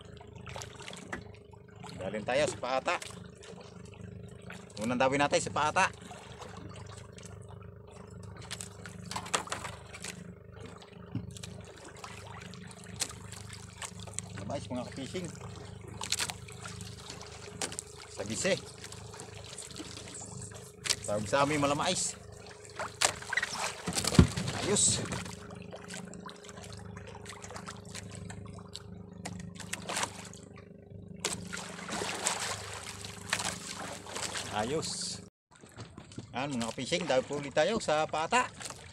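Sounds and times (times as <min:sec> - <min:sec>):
low hum: 0:00.0 - 0:35.3
motor droning: 0:00.0 - 0:35.3
water lapping against boat hull: 0:00.0 - 0:38.9.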